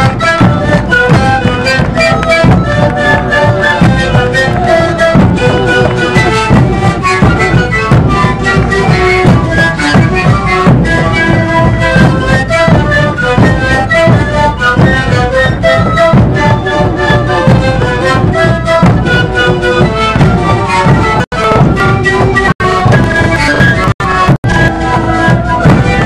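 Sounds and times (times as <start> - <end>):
lively traditional music: 0.0 - 26.0.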